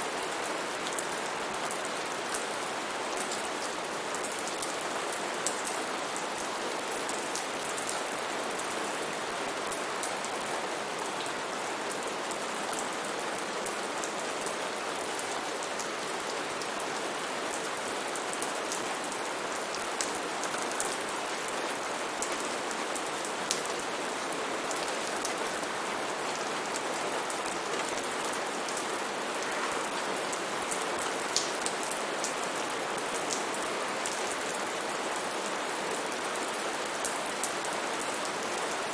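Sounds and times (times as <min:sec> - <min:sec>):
heavy rain on foliage: 0:00.0 - 0:38.9.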